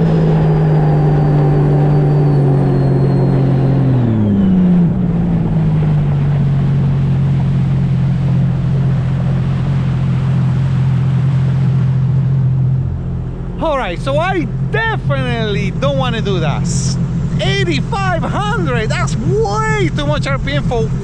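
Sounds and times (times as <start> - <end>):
watercraft engine running: 0.0 - 21.0.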